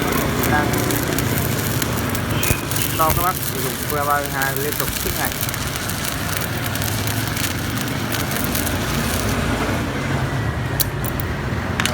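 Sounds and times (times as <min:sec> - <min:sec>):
welding arc crackling: 0:00.0 - 0:11.9.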